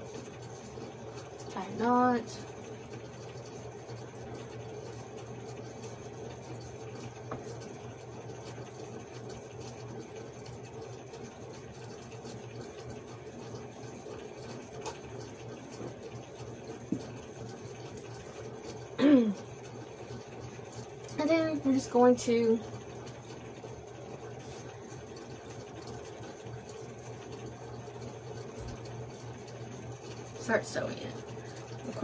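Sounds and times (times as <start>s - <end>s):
room hum and hiss: 0.0s - 32.0s.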